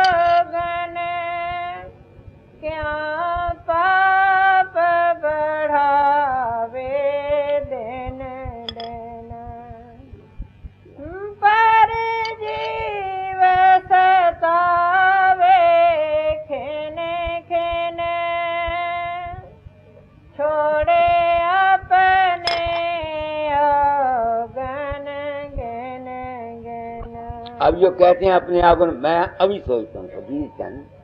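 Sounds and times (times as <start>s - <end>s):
person singing devotional verse: 0.0s - 1.9s, 2.6s - 10.1s, 11.0s - 19.5s, 20.4s - 30.8s.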